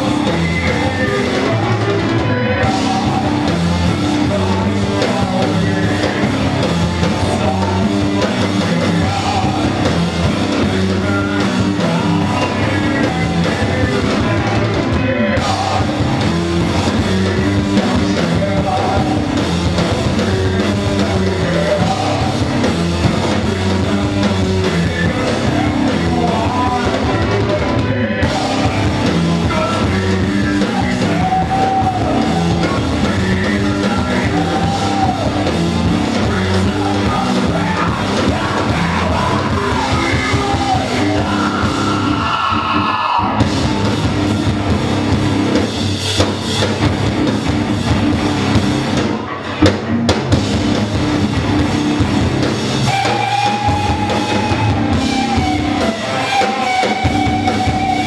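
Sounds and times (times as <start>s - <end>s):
person singing: 0.0s - 43.8s, 52.8s - 58.0s
bass guitar: 0.0s - 58.0s
drum kit: 0.0s - 58.0s
electric guitars: 0.0s - 58.0s.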